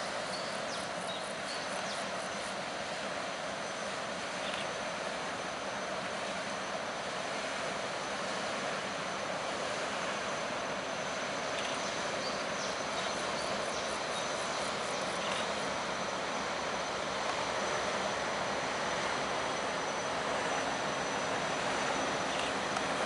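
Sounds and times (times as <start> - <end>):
barge diesel engine drone: 0.0 - 23.0.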